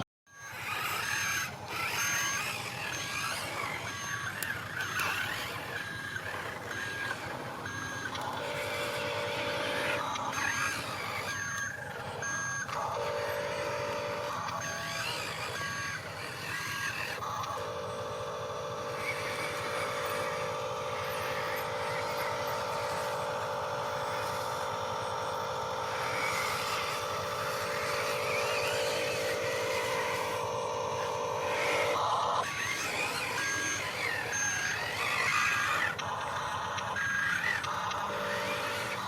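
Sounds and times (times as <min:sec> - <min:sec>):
electric drive whine: 0:00.0 - 0:39.0
reversing beeps: 0:00.3 - 0:18.0, 0:18.8 - 0:39.0.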